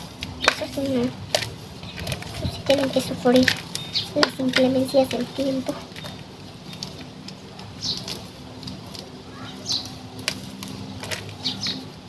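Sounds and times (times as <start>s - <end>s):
soil crumbling: 0.0s - 12.0s.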